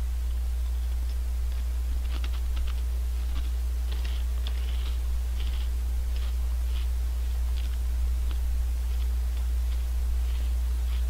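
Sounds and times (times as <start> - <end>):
low electrical hum: 0.0 - 11.0
chips being chewed: 0.8 - 11.0.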